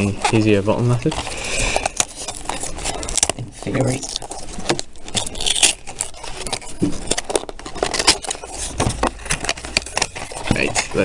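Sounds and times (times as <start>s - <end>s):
cardboard box scraping and rustling: 0.0s - 11.0s.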